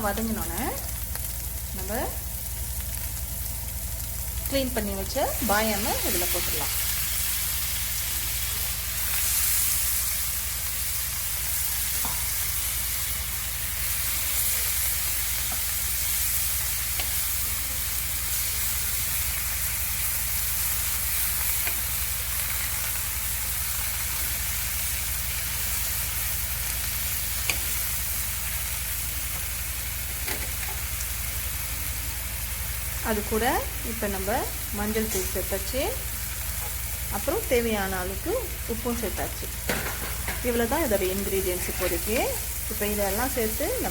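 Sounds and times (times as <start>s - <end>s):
spinach sizzling in hot oil: 0.0s - 43.9s.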